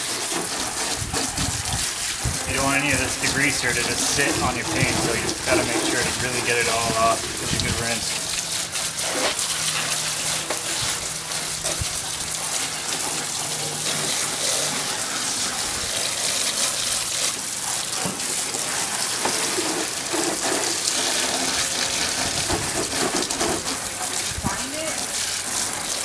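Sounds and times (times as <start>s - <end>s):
water spraying from hose nozzle: 0.0s - 26.0s.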